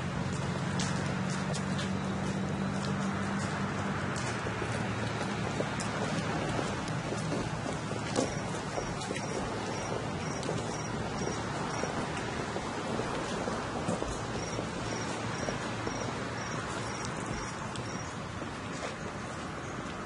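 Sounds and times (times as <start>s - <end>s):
feet shuffling on pavement: 0.0s - 20.0s.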